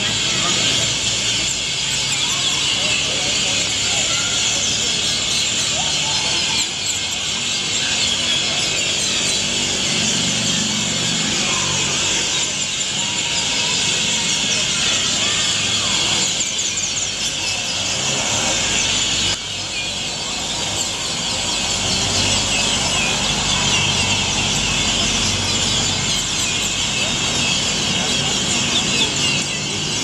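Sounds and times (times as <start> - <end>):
city traffic hum: 0.0 - 30.0
flock of birds chirping: 0.0 - 30.0.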